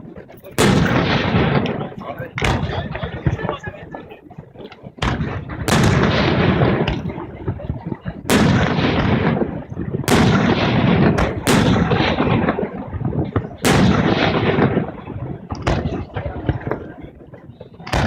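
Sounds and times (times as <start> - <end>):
fireworks bursting with bangs: 0.0 - 18.0.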